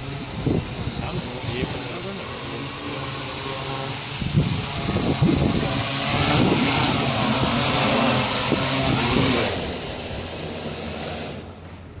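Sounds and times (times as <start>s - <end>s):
drone motors whining and buzzing: 0.0s - 11.8s.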